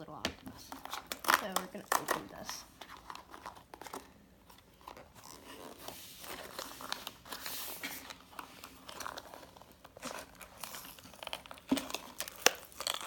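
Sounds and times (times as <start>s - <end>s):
plastic packaging crinkling: 0.5s - 13.0s.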